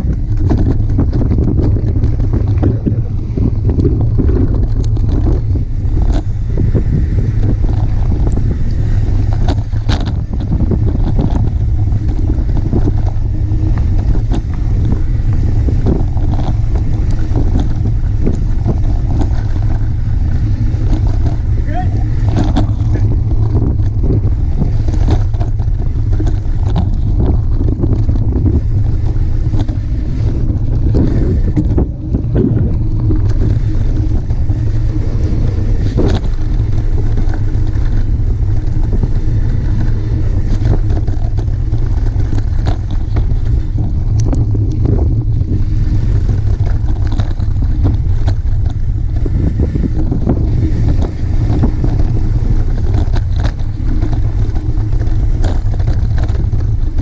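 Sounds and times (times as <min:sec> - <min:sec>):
bike clicks and rattles: 0:00.0 - 0:57.0
tyre rolling over dirt: 0:00.0 - 0:57.0
wind rumble on microphone: 0:00.0 - 0:57.0.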